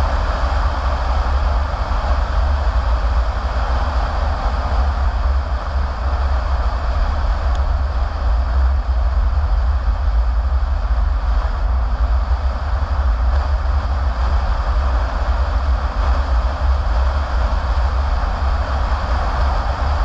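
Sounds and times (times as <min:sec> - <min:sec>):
car interior driving rumble: 0:00.0 - 0:20.0
tyre and road hiss: 0:00.0 - 0:20.0.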